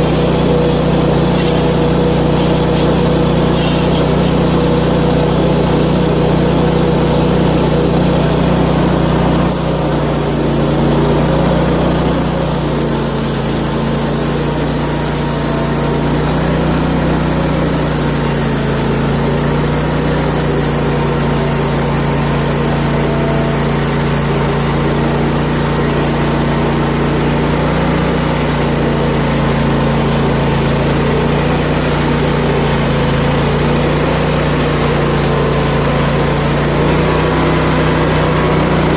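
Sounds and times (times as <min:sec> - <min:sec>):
sawmill gas engine running: 0:00.0 - 0:38.9.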